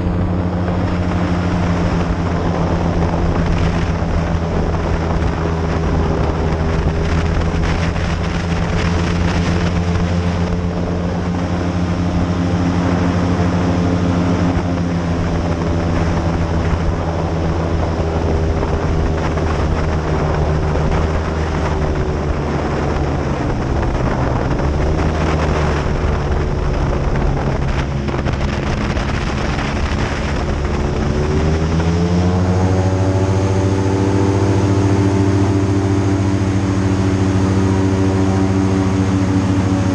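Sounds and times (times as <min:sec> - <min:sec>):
airboat engine and propeller: 0:00.0 - 0:39.9.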